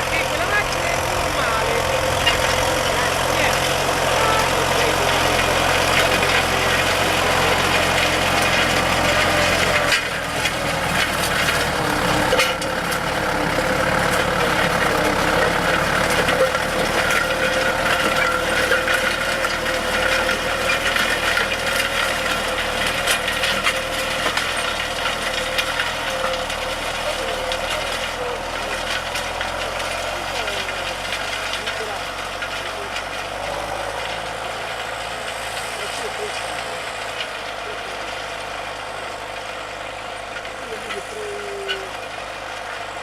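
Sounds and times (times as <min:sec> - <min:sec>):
tractor engine hum: 0:00.0 - 0:43.0.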